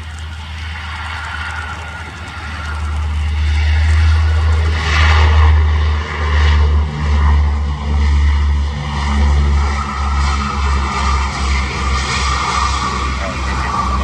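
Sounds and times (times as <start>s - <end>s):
propeller airliner engines droning: 0.0s - 14.0s.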